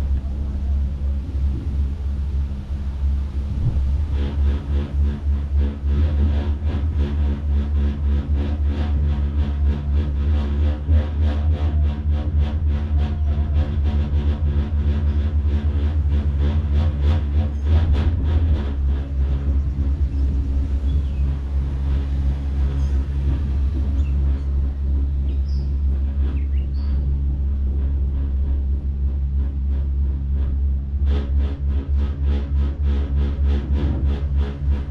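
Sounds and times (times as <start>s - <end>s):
low mechanical rumble: 0.0s - 34.9s.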